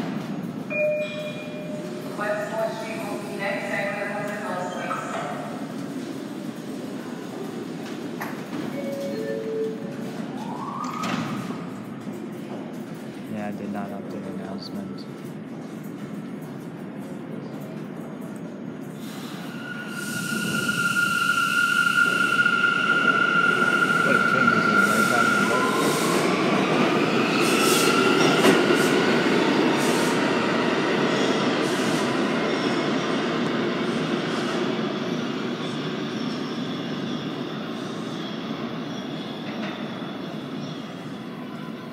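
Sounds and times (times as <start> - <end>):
train wheels rumbling and clattering: 0.0 - 41.8
subway train motors whining: 0.0 - 41.9.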